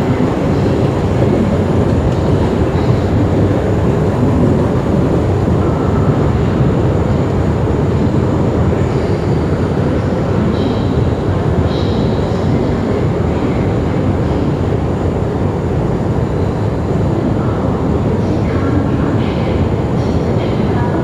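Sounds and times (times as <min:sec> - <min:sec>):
escalator mechanical rumble: 0:00.0 - 0:21.0.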